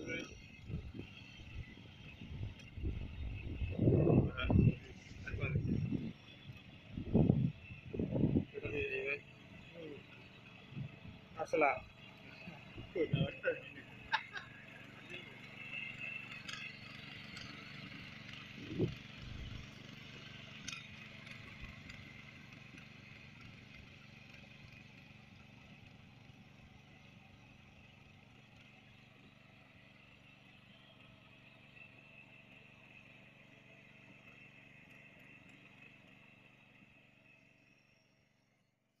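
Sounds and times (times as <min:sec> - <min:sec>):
power tiller engine running: 0:00.0 - 0:38.7.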